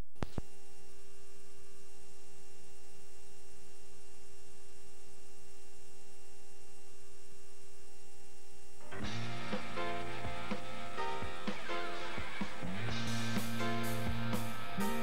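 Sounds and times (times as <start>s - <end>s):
electrical hum with tones: 0.0s - 15.0s
tape hiss: 0.0s - 15.0s.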